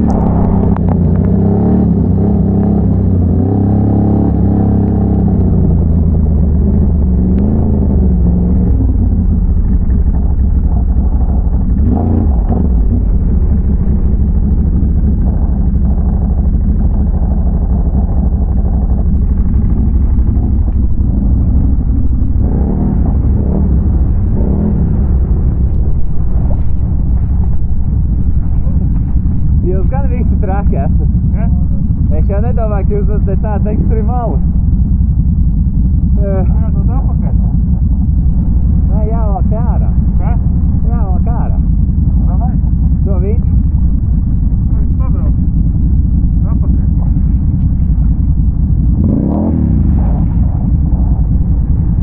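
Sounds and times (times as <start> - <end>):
atv engine revving: 0.0 - 52.0.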